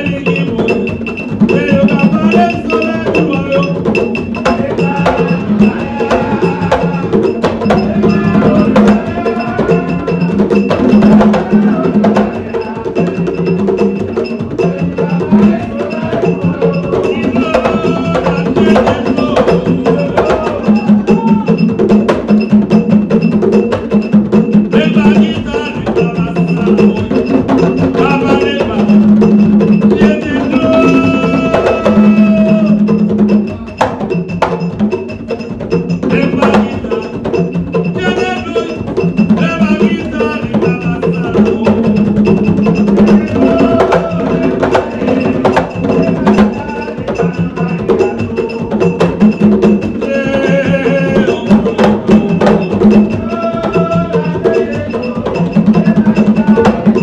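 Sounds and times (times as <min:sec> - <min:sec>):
drums: 0:00.0 - 0:57.0
high ringing tone: 0:00.0 - 0:57.0.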